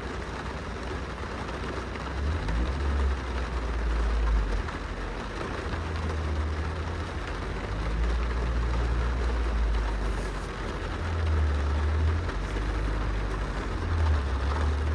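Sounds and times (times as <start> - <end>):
rain on car window: 0.0 - 14.9.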